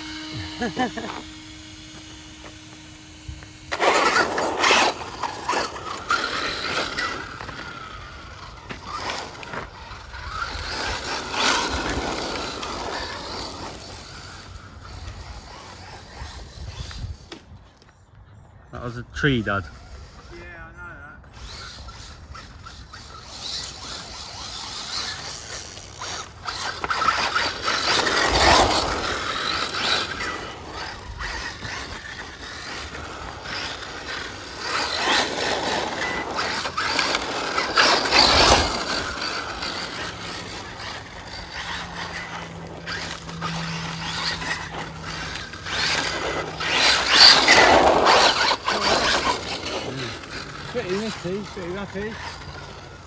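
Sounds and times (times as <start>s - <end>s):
rc car motor whirring: 0.0s - 53.0s.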